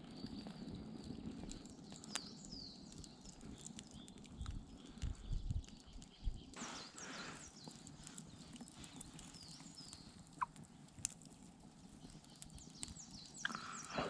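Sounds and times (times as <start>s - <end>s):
faint campfire crackling: 0.0s - 14.0s.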